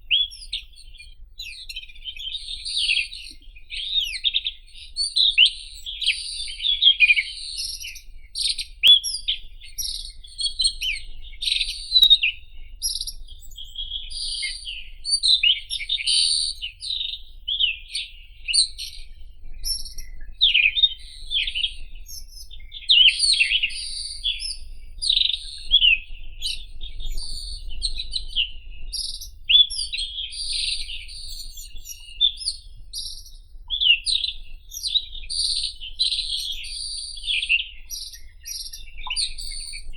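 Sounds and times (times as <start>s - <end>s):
robin singing: 0.0s - 39.9s.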